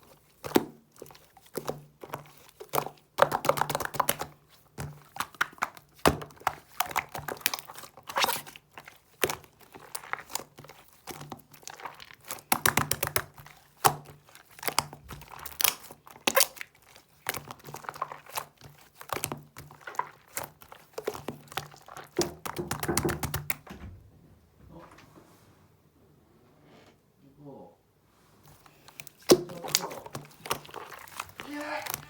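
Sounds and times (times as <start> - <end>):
slime squishing with wet clicks: 0.0 - 23.6, 28.4 - 32.0.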